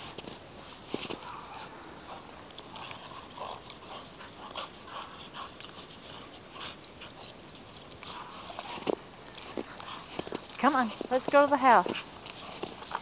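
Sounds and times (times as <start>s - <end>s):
dog vocal sounds: 1.1s - 13.0s.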